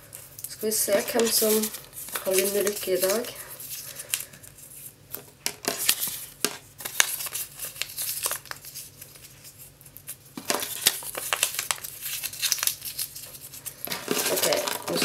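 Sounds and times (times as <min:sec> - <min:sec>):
paper crumpling: 0:00.1 - 0:05.0, 0:05.7 - 0:15.0.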